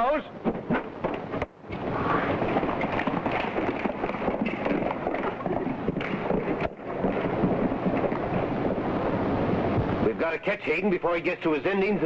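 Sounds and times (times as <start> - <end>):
horses galloping: 0.0 - 12.0.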